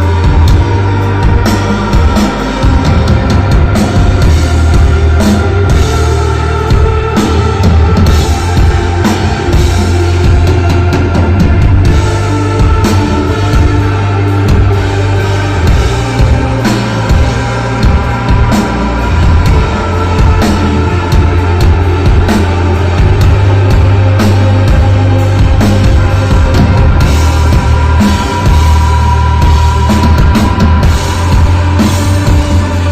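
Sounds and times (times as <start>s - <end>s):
rock band playing live: 0.0s - 32.9s.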